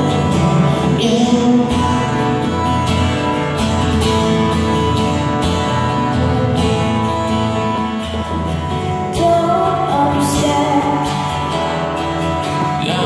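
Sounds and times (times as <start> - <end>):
second guitar: 0.0 - 13.0
strummed acoustic guitar: 0.0 - 13.0.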